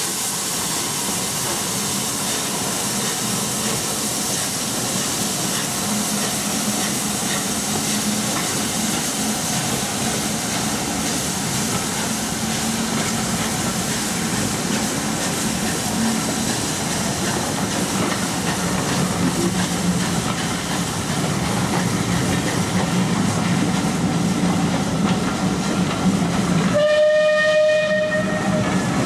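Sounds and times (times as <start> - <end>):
steam hissing: 0.0 - 29.0
steam locomotive pulling away: 0.0 - 29.0.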